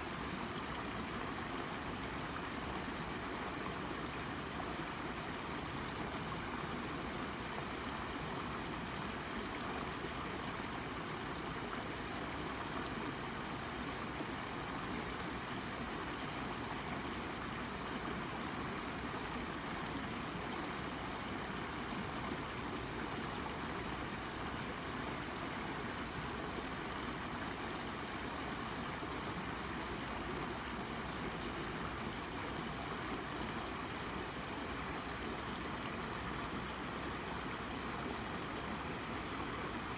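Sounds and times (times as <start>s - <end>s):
brook babbling over rock: 0.0s - 39.9s.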